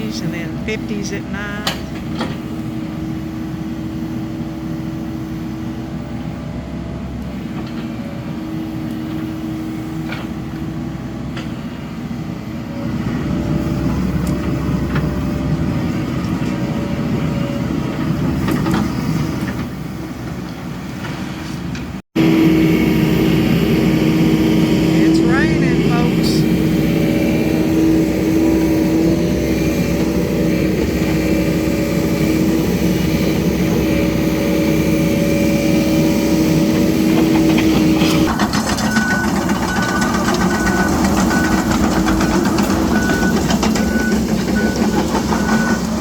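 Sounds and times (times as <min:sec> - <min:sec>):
diesel engine running with whine: 0:00.0 - 0:21.0, 0:22.2 - 0:46.0.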